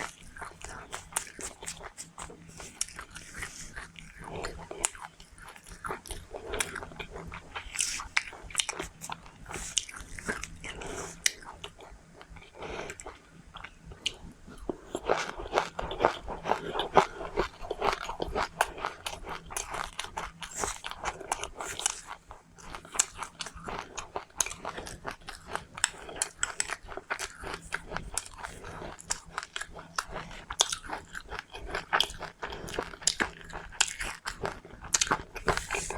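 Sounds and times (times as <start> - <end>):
chewing and crunching food: 0.0 - 35.9.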